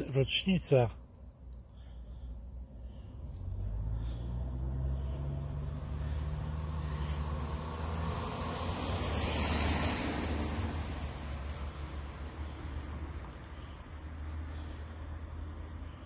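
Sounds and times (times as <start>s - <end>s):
vehicle passing by: 1.8s - 16.0s.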